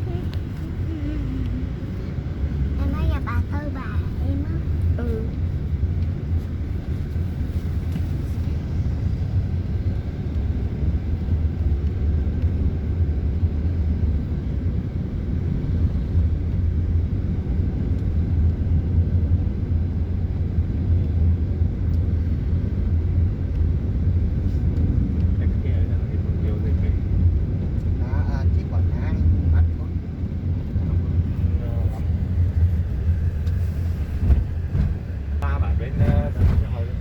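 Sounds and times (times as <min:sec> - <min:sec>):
vehicle low rumble: 0:00.0 - 0:37.0.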